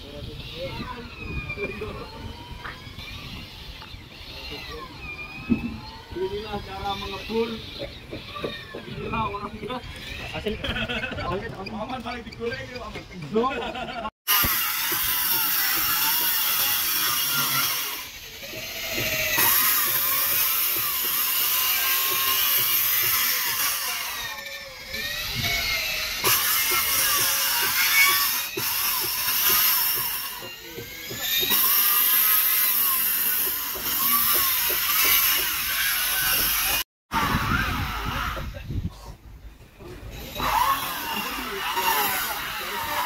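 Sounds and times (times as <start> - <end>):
circular saw cutting wood: 0.0 - 39.2, 39.8 - 43.0.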